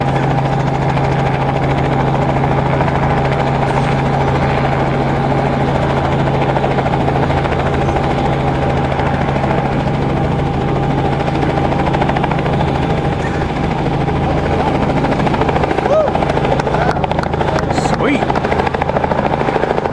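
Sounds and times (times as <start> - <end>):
helicopter engine and rotor drone: 0.0 - 19.9.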